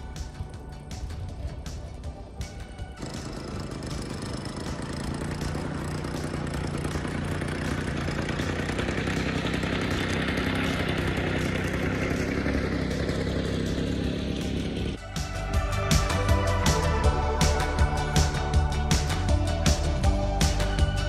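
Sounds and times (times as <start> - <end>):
mower clattering: 0.0 - 20.8
reel mower engine running: 0.0 - 21.0.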